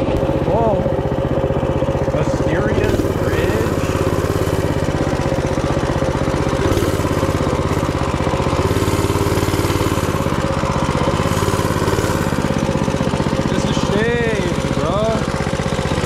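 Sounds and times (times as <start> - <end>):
minibike engine running: 0.0 - 16.0.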